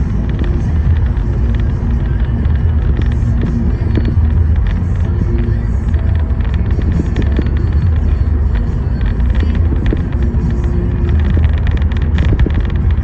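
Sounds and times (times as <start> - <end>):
car engine and road noise: 0.0 - 13.0
faint ticks: 0.0 - 13.0.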